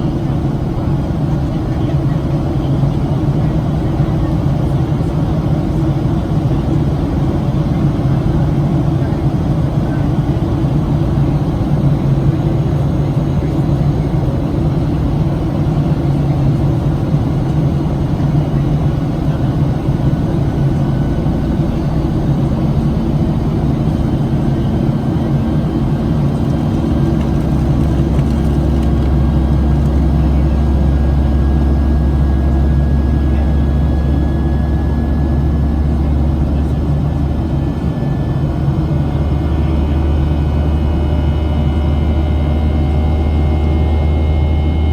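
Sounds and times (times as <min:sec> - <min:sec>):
aircraft engines droning: 0:00.0 - 0:44.9.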